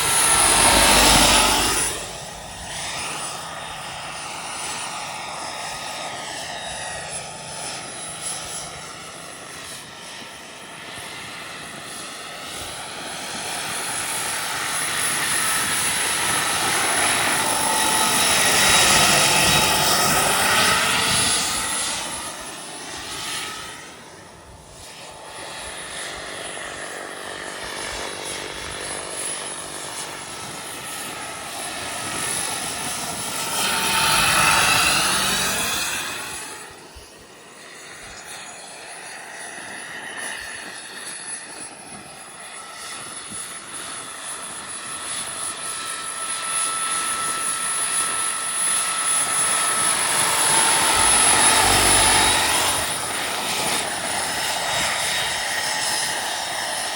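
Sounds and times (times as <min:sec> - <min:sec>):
helicopter turbine whine: 0:00.0 - 0:56.9.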